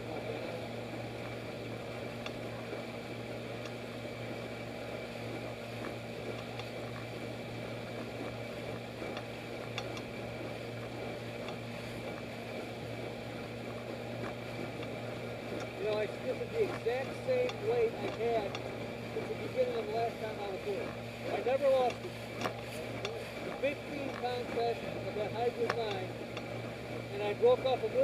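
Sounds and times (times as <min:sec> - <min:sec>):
outboard motor running: 0:00.0 - 0:28.0
water hissing around hull: 0:00.0 - 0:28.0.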